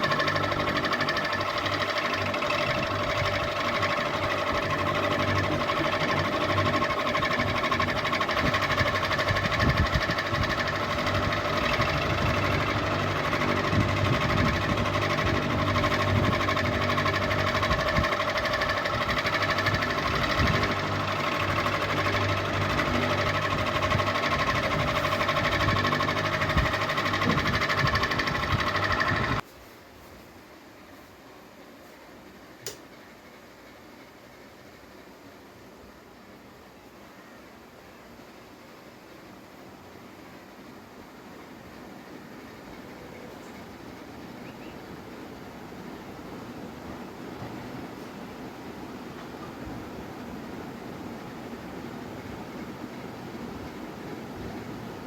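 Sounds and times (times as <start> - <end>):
ceiling fan whining and rattling: 0.0 - 55.0.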